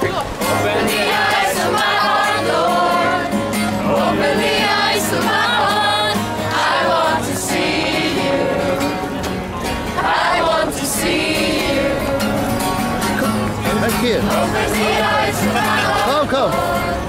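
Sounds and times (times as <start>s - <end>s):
acoustic guitar strumming: 0.0s - 17.0s
young voices singing together: 0.4s - 17.0s.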